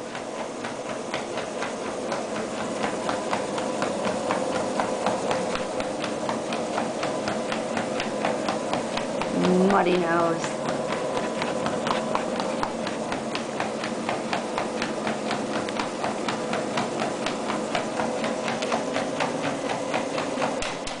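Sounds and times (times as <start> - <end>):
paws striking treadmill belt: 0.0 - 21.0
treadmill motor hum: 0.0 - 21.0.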